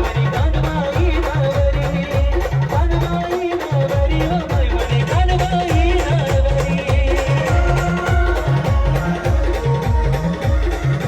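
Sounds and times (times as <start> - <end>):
heavy bass drum beat: 0.0 - 11.0
held melody line: 0.0 - 11.0.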